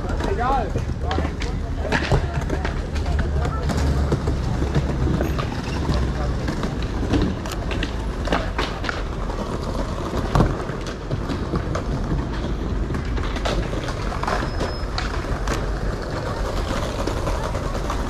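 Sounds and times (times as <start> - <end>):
skateboard clacks and knocks: 0.0 - 18.0
skateboard wheels rumbling over paving: 0.0 - 18.0.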